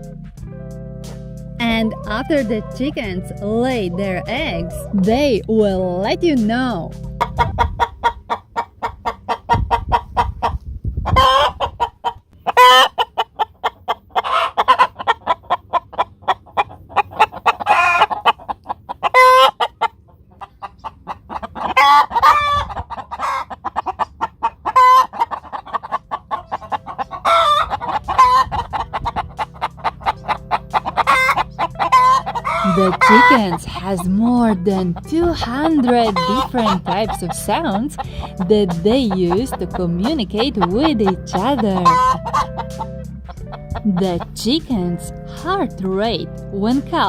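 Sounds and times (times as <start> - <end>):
hen cackling and squawking: 1.6 - 5.3, 6.0 - 47.0.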